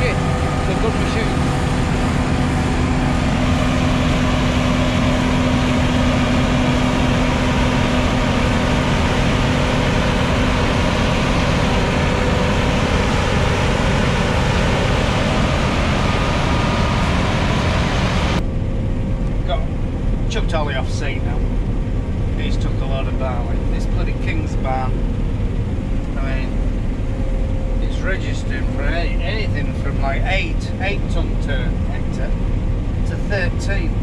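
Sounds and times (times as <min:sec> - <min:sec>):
combine harvester droning: 0:00.0 - 0:34.0.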